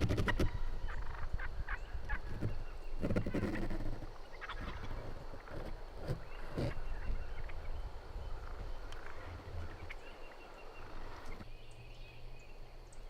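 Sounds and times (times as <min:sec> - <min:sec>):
faint turkey calls: 0:00.0 - 0:11.5.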